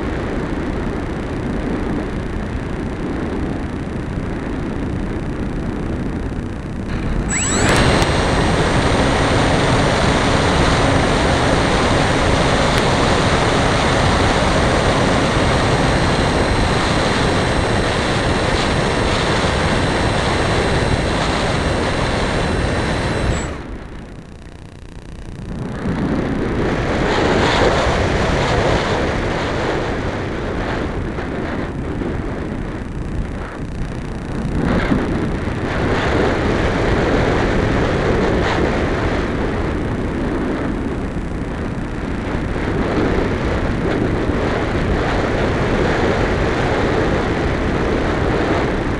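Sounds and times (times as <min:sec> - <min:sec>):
electric motor and propeller whine: 0:00.0 - 0:48.9.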